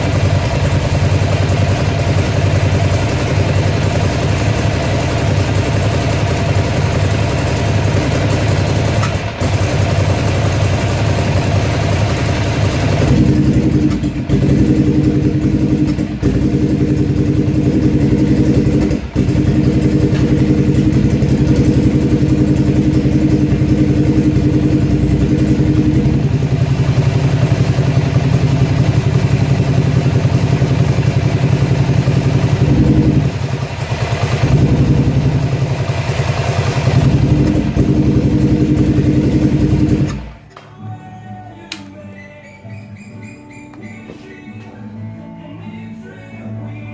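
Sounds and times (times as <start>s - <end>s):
motorcycle engine running: 0.0s - 40.5s.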